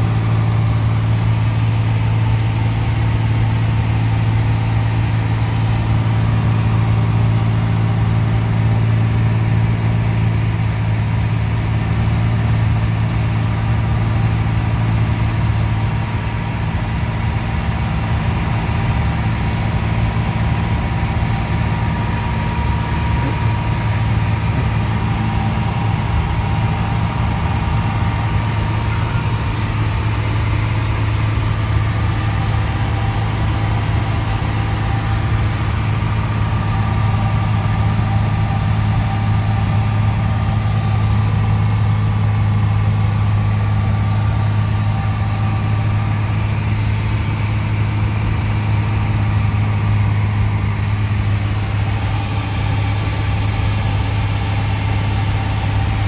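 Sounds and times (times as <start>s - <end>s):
propeller aircraft engine droning: 0.0s - 56.0s.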